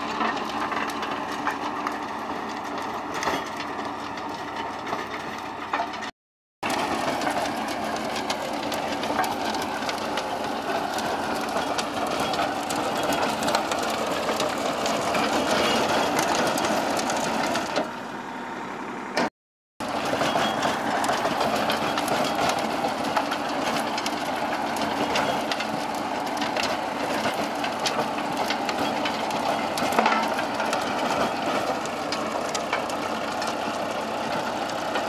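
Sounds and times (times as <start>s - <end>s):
rotavator churning soil: 0.0s - 18.4s, 19.1s - 35.0s
tractor diesel engine under load: 0.0s - 35.0s.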